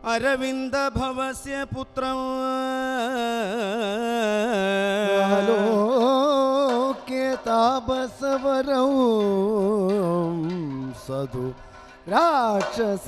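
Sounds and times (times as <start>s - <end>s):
person singing solo chant: 2.3s - 13.0s.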